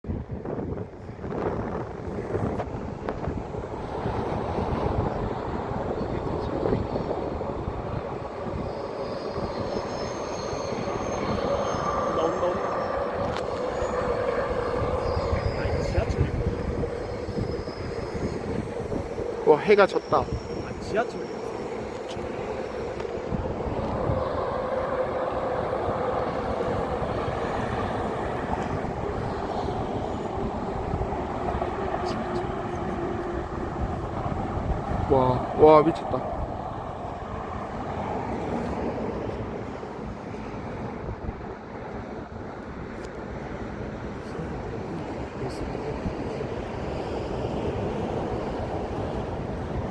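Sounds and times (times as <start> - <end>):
train rumbling: 0.0 - 49.9
wind on microphone: 0.0 - 49.9.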